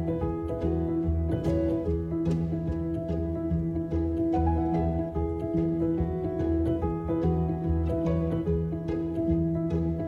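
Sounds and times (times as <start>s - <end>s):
plucked-string notes: 0.0s - 10.0s.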